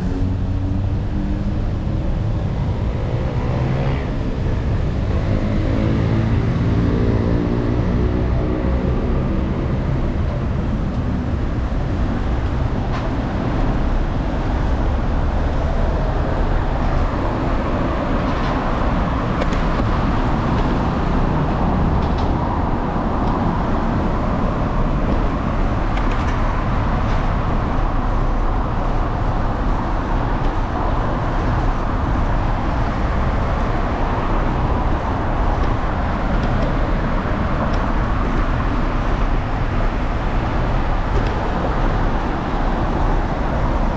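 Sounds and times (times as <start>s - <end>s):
road and traffic noise: 0.0s - 43.9s.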